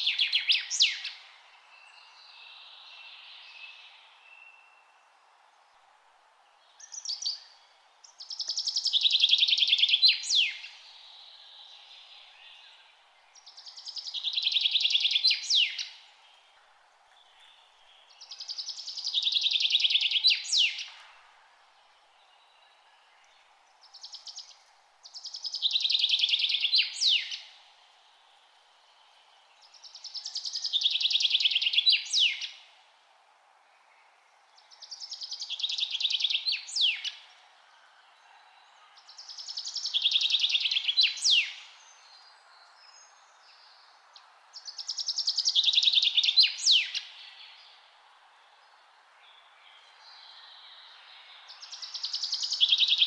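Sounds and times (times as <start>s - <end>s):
songbird buzzy trill song: 0.0s - 32.8s, 33.7s - 53.0s.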